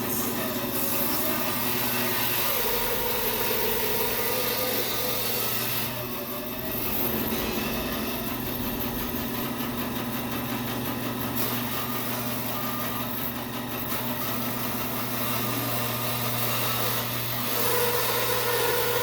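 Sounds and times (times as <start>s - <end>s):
bandsaw cutting a log: 0.0s - 19.0s.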